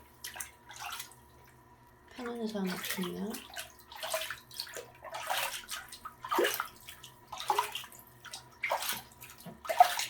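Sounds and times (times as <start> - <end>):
bathwater sloshing and splashing: 0.0 - 10.0.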